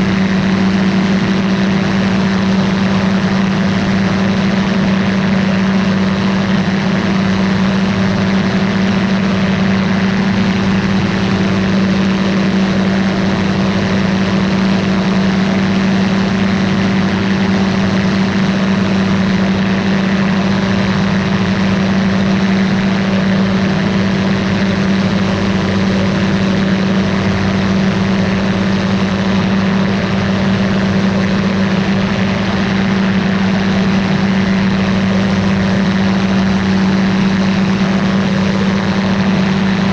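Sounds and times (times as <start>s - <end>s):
ultralight aircraft engine drone: 0.0s - 39.9s.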